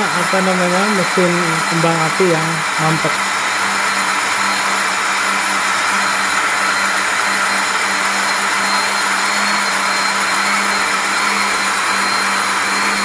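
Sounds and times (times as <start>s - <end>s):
machine fans whooshing whir: 0.0s - 13.0s.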